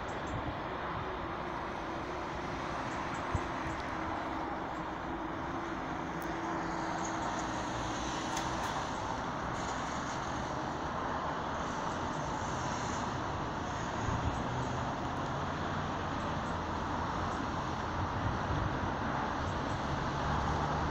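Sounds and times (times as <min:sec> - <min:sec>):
distant vehicle rumble: 0:00.0 - 0:20.9.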